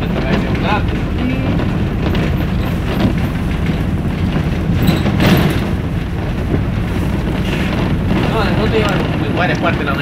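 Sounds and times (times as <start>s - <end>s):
vehicle rumble from inside cabin: 0.0s - 10.0s
short knocks or rattles: 0.1s - 10.0s.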